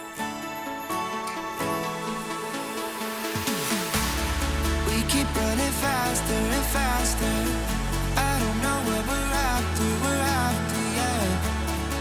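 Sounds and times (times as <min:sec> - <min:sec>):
melodic music with bell-like notes: 0:00.0 - 0:12.0.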